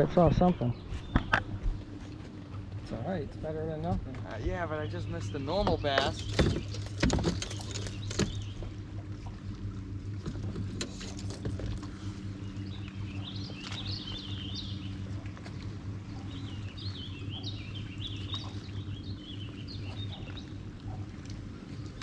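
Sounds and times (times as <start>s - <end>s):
birds singing: 0.0s - 22.0s
boat motor humming: 0.0s - 22.0s.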